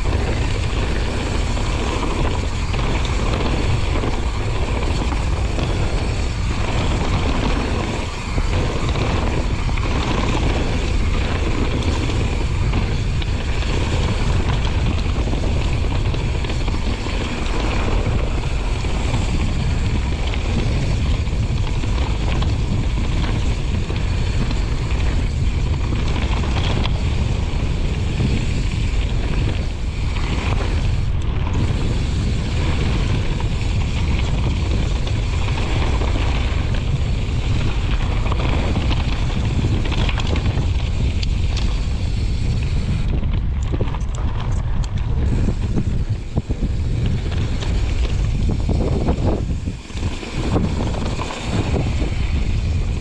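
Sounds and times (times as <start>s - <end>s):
bike knocks and rattles: 0.0s - 53.0s
tyres rumbling on trail: 0.0s - 53.0s
wind buffeting microphone: 0.0s - 53.0s.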